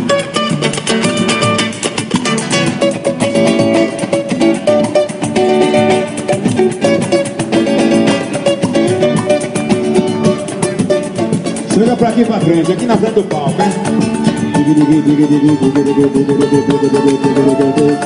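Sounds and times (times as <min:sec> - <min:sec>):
pandeiro: 0:00.0 - 0:18.0
strummed guitars: 0:00.0 - 0:18.0.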